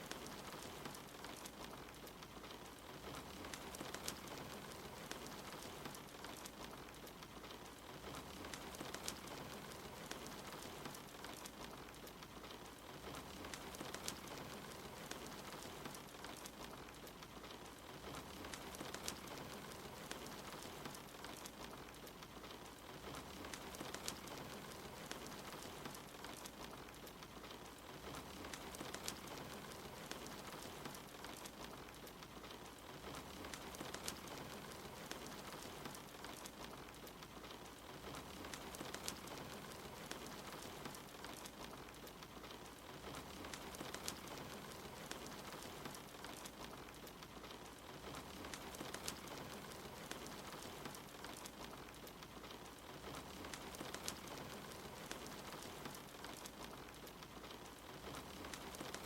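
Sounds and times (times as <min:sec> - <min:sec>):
soft rain: 0:00.0 - 0:59.0
wood fire crackling: 0:00.0 - 0:59.0.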